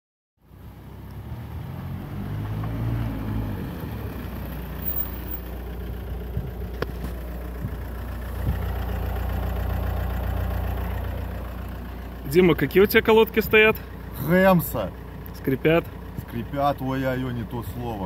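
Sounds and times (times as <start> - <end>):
car engine running: 0.5 - 18.0.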